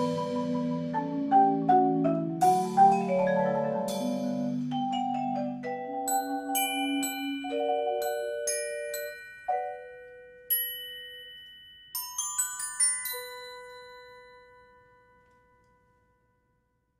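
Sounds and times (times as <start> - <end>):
marimbas and vibraphone playing: 0.0 - 14.6.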